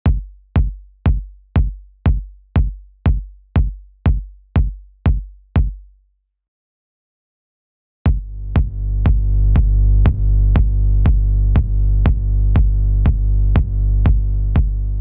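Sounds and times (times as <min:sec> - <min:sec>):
electronic kick drum beating: 0:00.0 - 0:05.9, 0:08.1 - 0:15.0.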